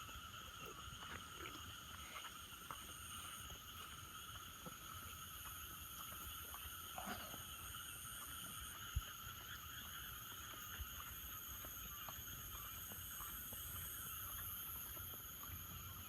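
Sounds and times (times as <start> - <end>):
insects and frogs trilling: 0.0 - 16.0.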